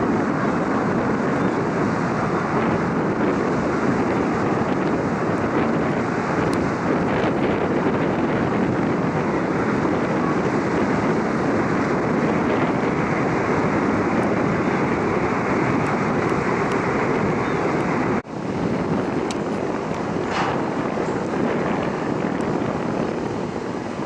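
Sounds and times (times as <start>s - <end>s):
churned water rushing: 0.0s - 24.0s
ship engine noise: 0.0s - 24.0s
wind on microphone: 0.0s - 24.0s.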